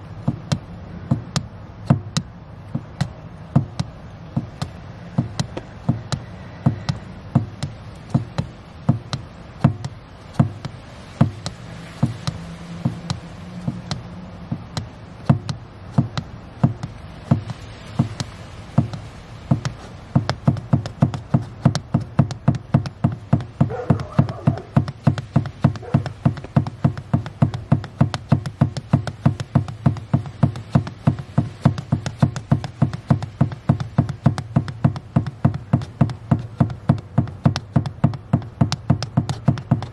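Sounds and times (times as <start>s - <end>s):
steady low hum: 0.0s - 39.9s
pedal knocking taps: 0.2s - 39.9s.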